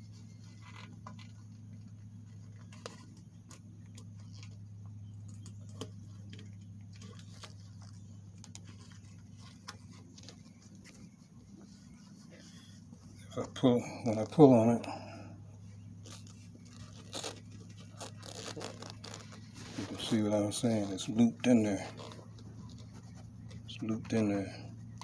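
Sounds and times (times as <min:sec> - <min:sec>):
small clicks and scrapes of hands: 0:00.0 - 0:13.6, 0:15.8 - 0:21.2, 0:21.9 - 0:24.2
steady low hum: 0:00.0 - 0:25.0.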